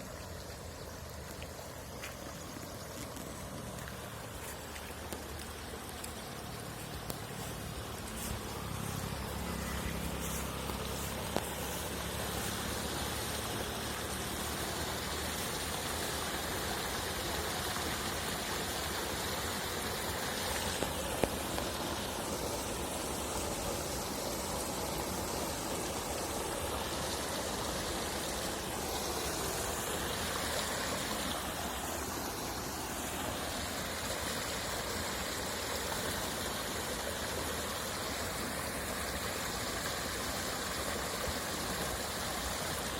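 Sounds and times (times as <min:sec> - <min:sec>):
flowing water rushing: 0:00.0 - 0:42.9.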